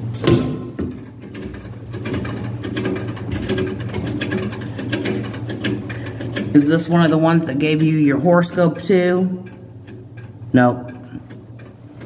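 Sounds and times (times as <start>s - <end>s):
mechanism knock: 0.0s - 12.0s
ratchet clicking and gear noise: 0.9s - 12.0s.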